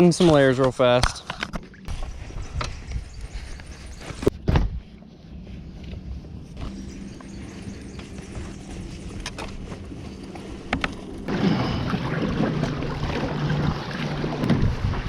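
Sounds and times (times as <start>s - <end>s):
water noise: 0.0s - 4.3s, 6.6s - 15.0s
motorboat engine humming: 0.0s - 15.0s
wind noise: 1.3s - 15.0s.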